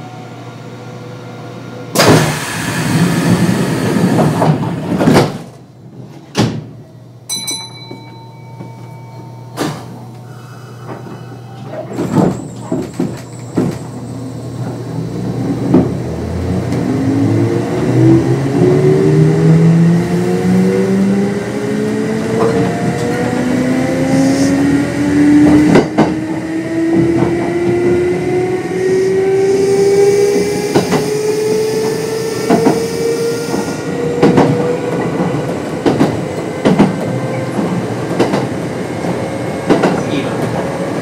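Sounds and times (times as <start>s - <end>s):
train doors shutting: 1.5s - 6.9s, 7.8s - 41.0s.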